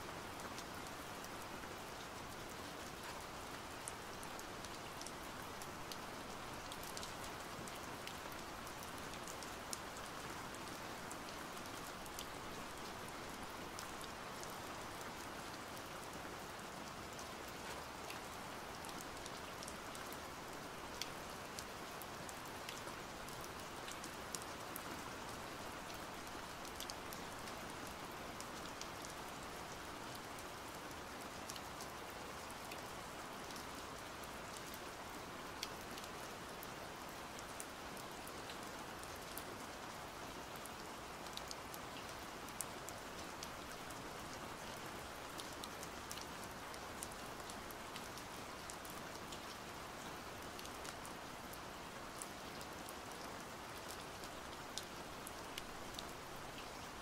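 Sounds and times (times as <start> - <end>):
rain drops ticking on surface: 0.0 - 57.0.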